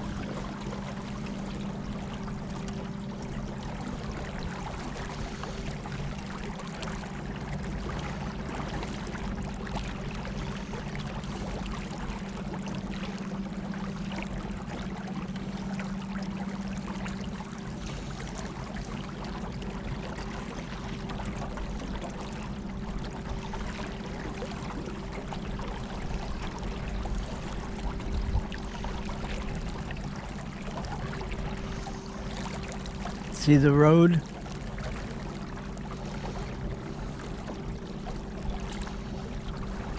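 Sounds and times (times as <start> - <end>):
water rushing along boat hull: 0.0 - 39.9.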